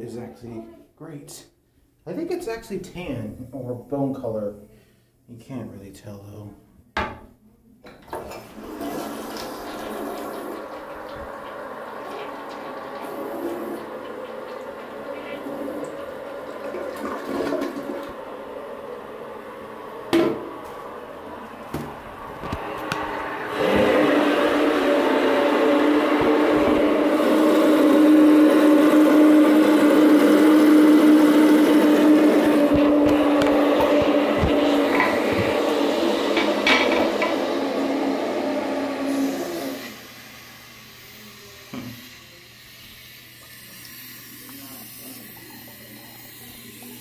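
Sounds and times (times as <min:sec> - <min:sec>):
toilet bowl refilling: 0:08.0 - 0:47.0.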